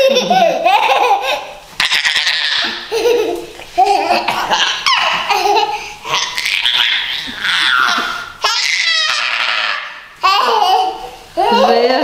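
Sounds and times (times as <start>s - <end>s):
toddler girl laughing: 0.0s - 11.1s.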